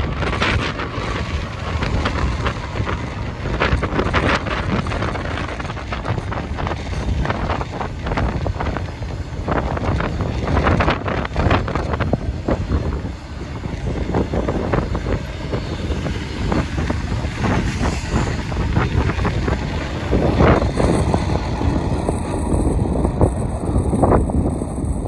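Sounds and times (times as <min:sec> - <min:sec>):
diesel locomotive: 0:00.0 - 0:25.0
freight train rolling past: 0:00.0 - 0:25.0
wind buffeting microphone: 0:00.0 - 0:25.0.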